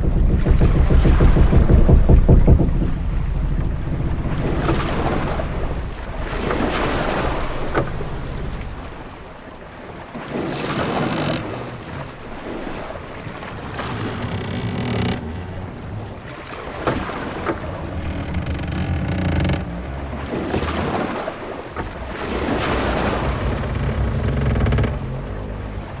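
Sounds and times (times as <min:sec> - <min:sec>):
heavy low rumble: 0:00.0 - 0:09.7, 0:13.6 - 0:26.0
waves washing against hull: 0:00.0 - 0:26.0
wind: 0:00.0 - 0:26.0.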